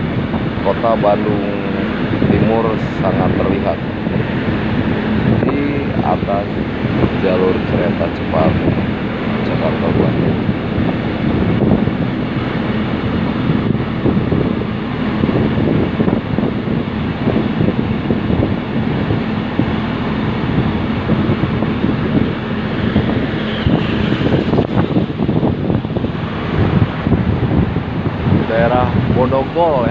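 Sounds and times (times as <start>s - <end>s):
rail vehicle running rumble: 0.0s - 29.9s
wind buffeting microphone: 0.0s - 29.9s.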